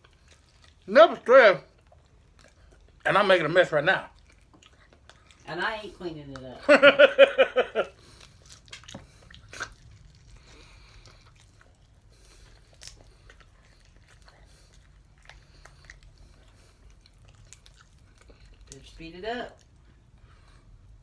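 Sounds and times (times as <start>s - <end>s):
chewing and biting: 0.0s - 0.9s, 1.6s - 6.6s, 7.8s - 21.0s.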